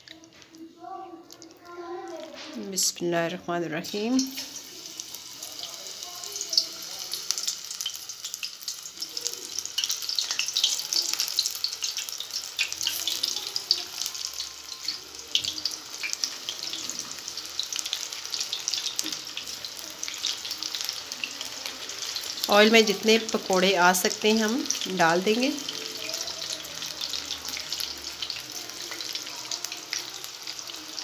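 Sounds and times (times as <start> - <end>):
fritters deep-frying in oil: 3.8 - 31.0.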